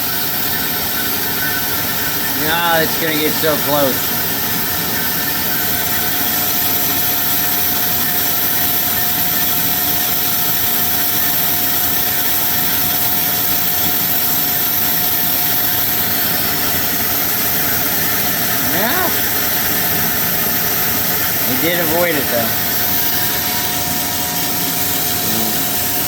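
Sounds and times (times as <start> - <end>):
bandsaw cutting metal: 2.2 - 8.5, 9.1 - 26.0.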